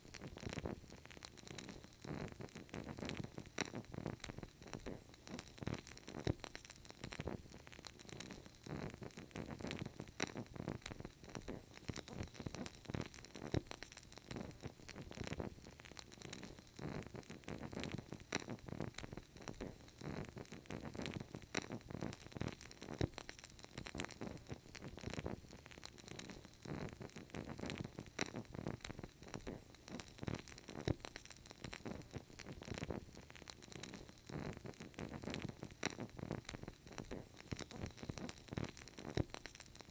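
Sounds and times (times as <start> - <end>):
candle crackling: 0.0 - 39.9.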